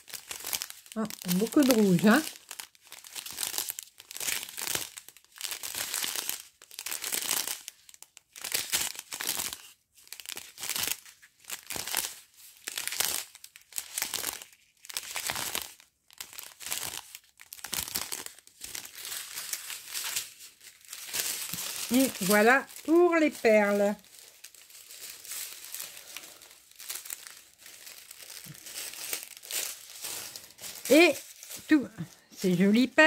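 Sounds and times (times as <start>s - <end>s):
plastic bags crinkling: 0.0s - 33.0s.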